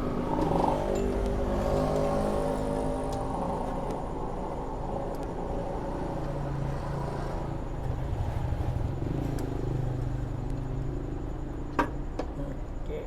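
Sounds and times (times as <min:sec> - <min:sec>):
engine running with low hum: 0:00.0 - 0:12.9.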